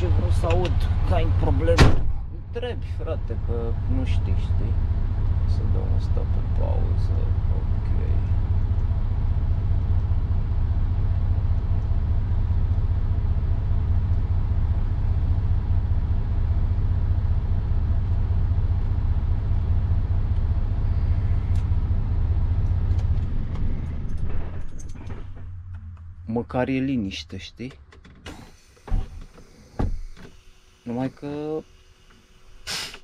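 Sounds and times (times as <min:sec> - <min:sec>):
truck diesel engine rumbling: 0:00.0 - 0:33.0.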